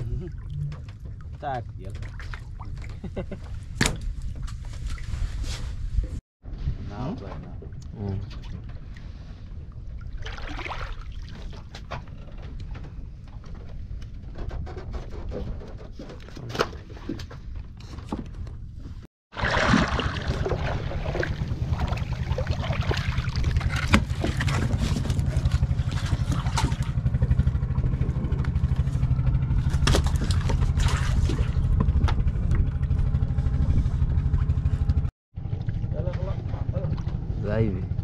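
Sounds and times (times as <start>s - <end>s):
boat engine rumbling: 0.0s - 38.0s.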